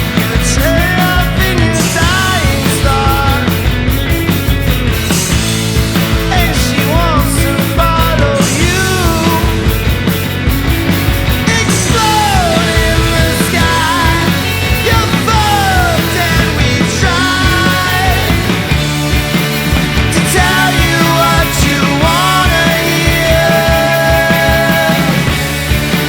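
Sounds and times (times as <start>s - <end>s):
punk grunge rock band: 0.0s - 26.0s.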